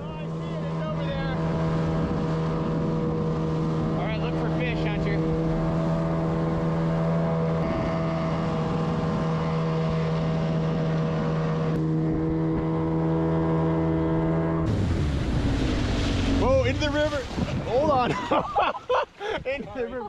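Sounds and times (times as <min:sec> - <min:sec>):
rushing wind: 0:00.0 - 0:19.7
outboard motor running: 0:00.0 - 0:20.0
water rushing: 0:00.0 - 0:20.0.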